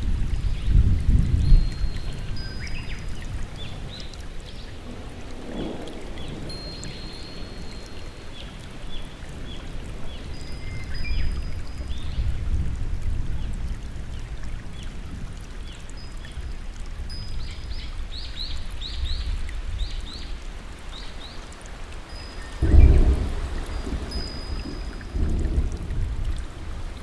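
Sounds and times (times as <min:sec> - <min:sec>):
running water: 0:00.0 - 0:27.0
steady rain: 0:00.0 - 0:27.0.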